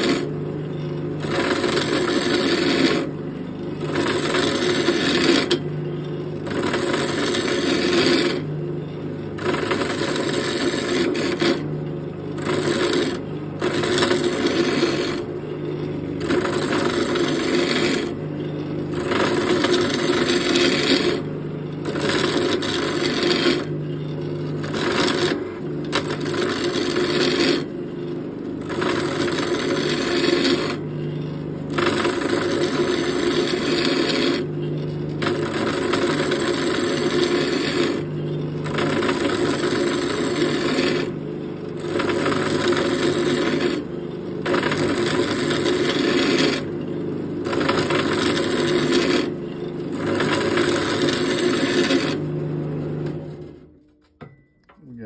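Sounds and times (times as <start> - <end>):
wood lathe motor hum: 0.0 - 53.8
turning tool scraping wood: 0.0 - 54.0.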